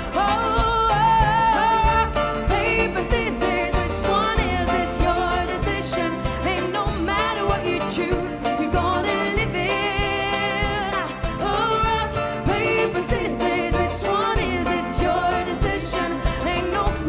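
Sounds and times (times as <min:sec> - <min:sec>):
banjo: 0:00.0 - 0:17.0
bass: 0:00.0 - 0:17.0
drums: 0:00.0 - 0:17.0
woman singing lead: 0:00.0 - 0:17.0.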